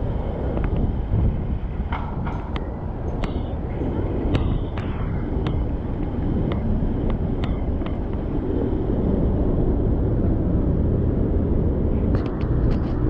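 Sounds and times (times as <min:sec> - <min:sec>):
road and traffic noise: 0:00.0 - 0:13.0
wind buffeting microphone: 0:00.0 - 0:13.0.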